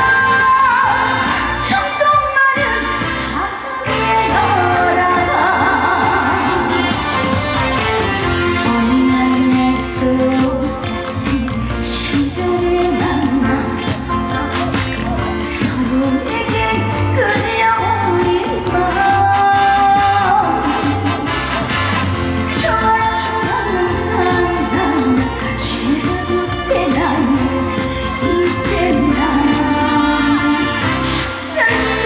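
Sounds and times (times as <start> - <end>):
woman singing: 0.0 - 21.6, 22.2 - 32.0
backing band with bass beat: 0.0 - 32.0.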